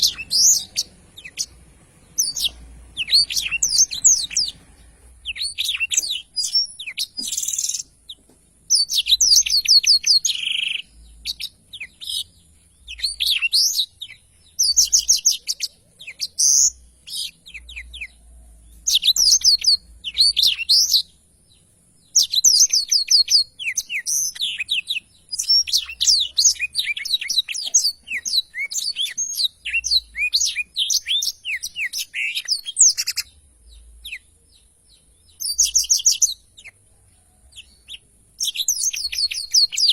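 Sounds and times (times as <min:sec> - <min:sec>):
canary singing chirps and trills: 0:00.0 - 0:39.9.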